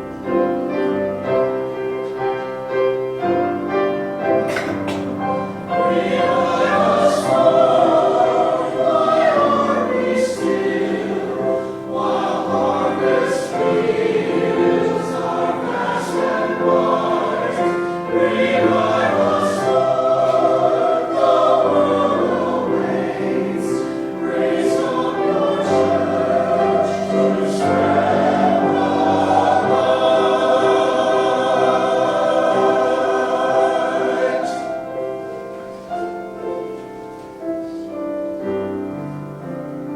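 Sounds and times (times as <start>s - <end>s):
church choir singing: 0.0s - 37.9s.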